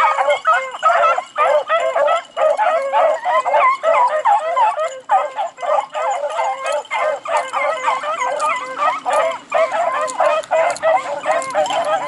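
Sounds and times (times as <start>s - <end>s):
pack of beagles baying: 0.0s - 12.0s.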